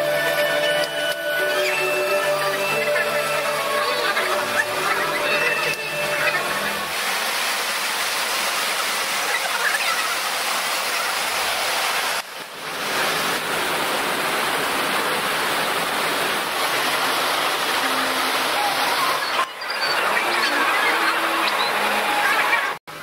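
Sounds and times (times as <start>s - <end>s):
water gushing through lock sluices: 0.3s - 22.8s.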